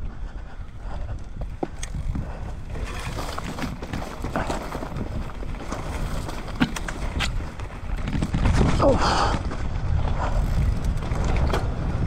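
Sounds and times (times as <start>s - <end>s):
wind buffeting microphone: 0.0s - 12.0s
bike clicks and knocks: 0.8s - 12.0s
tyres rumbling on dirt: 1.4s - 12.0s.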